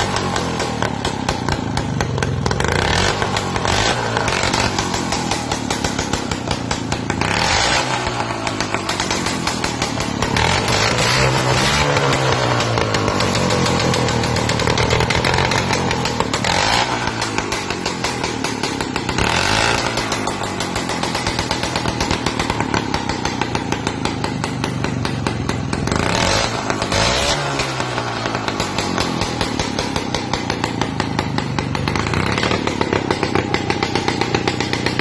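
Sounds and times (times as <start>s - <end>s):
scooter engine revving: 0.0s - 35.0s.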